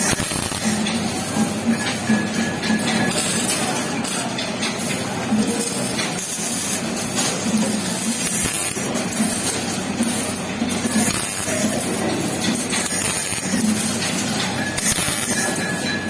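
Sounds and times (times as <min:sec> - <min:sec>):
welding arc crackling and popping: 0:00.0 - 0:15.8.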